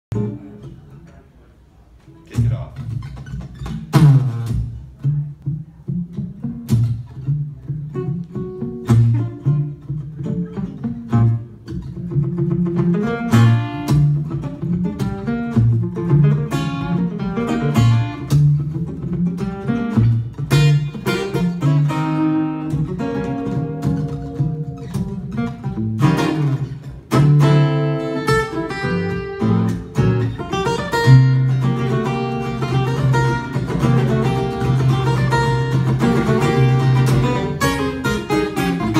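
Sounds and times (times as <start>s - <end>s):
acoustic guitar duet: 0.1s - 38.9s.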